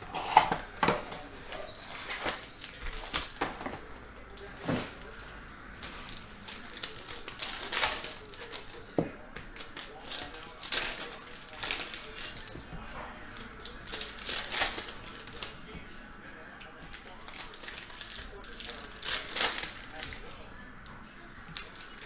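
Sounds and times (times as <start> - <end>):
cards rustling: 0.0 - 15.6, 16.9 - 20.5, 21.5 - 22.0
foil wrappers crinkling: 0.1 - 8.9, 9.5 - 12.6, 13.4 - 15.6, 16.9 - 20.4, 21.5 - 22.0.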